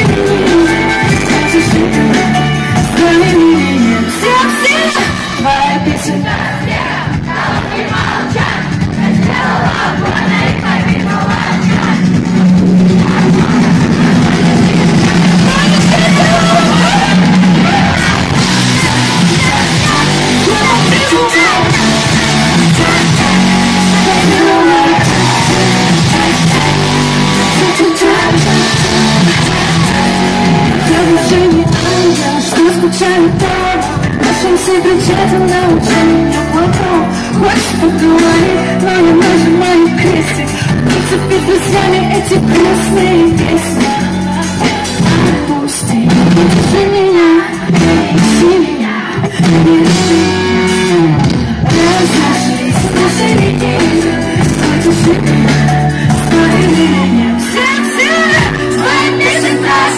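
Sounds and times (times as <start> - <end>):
person singing: 0.0 - 8.5, 9.2 - 59.9
live pop-rock concert music: 0.0 - 59.9.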